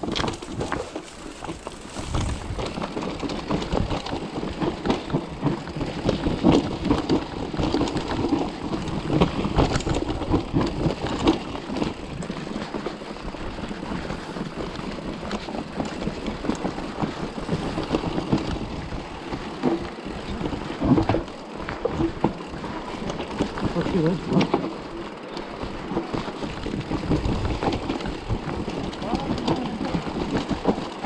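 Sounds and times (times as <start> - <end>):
bike parts rattling: 0.0 - 31.0.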